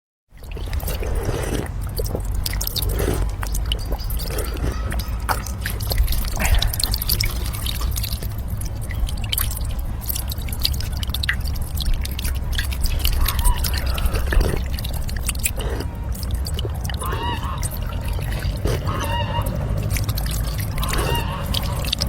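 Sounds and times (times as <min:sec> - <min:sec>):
mouth clicks: 0:00.4 - 0:22.0
person gulping and swallowing: 0:00.4 - 0:22.0
steady low hum: 0:00.4 - 0:22.0.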